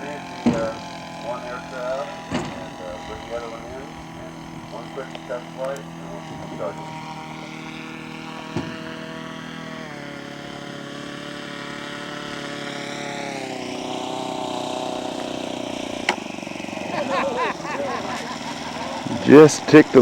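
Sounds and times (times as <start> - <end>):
model plane engine in flight: 0.0 - 20.0.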